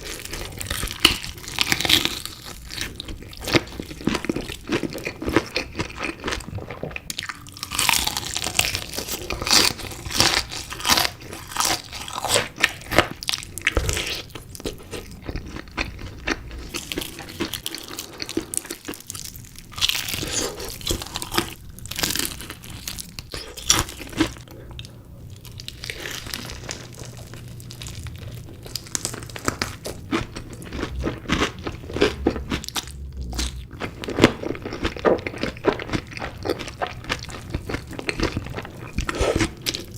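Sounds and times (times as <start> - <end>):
chewing crunchy chicken: 0.0 - 39.9.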